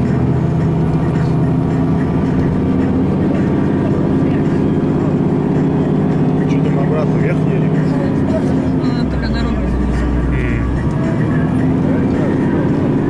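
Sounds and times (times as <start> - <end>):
road noise: 0.0 - 13.0
vehicle engine running under load: 0.0 - 13.0.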